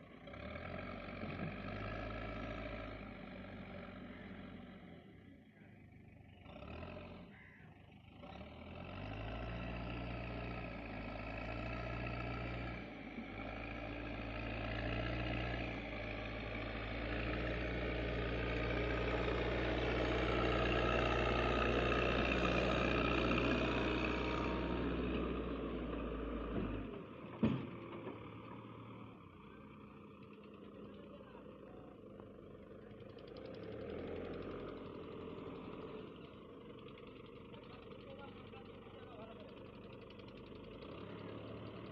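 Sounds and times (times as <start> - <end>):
heavy diesel engine working hard: 0.0 - 41.9.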